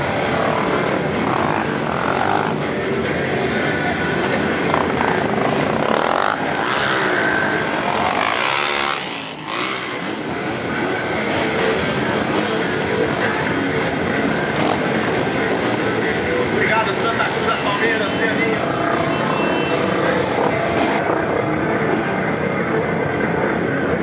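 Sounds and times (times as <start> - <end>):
dirt bike engines idling: 0.0 - 22.8
dirt bikes revving: 0.0 - 22.8.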